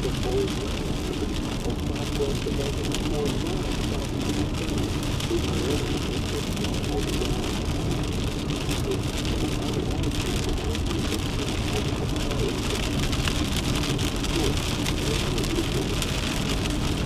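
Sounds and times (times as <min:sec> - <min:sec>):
rain ticking on car roof: 0:00.0 - 0:17.0
wind and road noise: 0:00.0 - 0:17.0.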